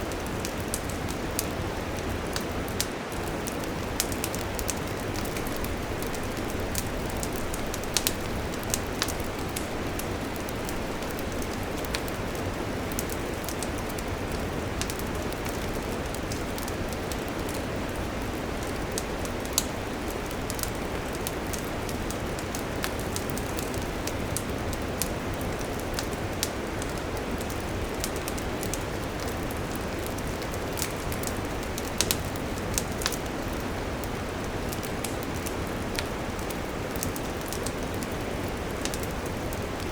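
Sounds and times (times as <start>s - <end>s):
campfire low rush: 0.0s - 39.9s
fire crackling and popping: 0.0s - 39.9s.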